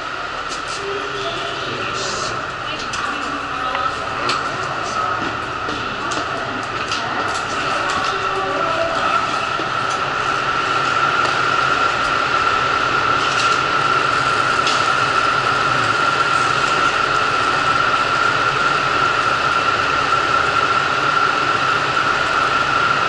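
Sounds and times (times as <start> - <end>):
diesel railcar engines idling: 0.0 - 23.0.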